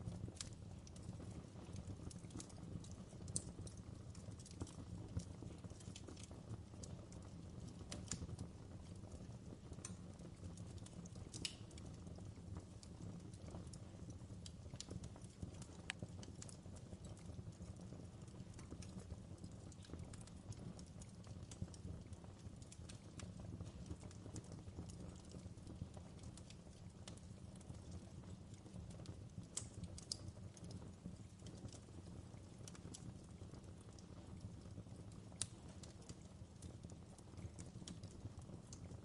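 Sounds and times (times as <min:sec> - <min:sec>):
faint fireplace crackle: 0:00.0 - 0:39.0.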